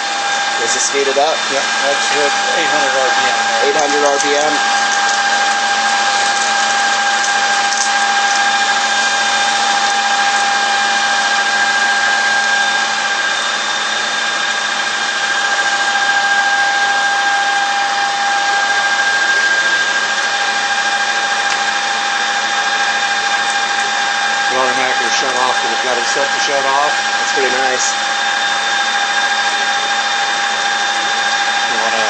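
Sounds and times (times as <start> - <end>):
metal lathe whining: 0.0 - 32.0.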